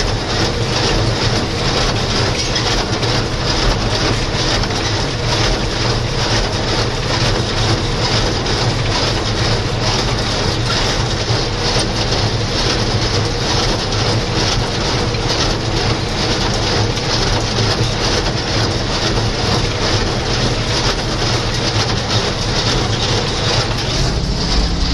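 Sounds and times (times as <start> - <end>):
baler mechanical clatter: 0.0 - 24.9
tractor diesel engine running: 0.0 - 24.9.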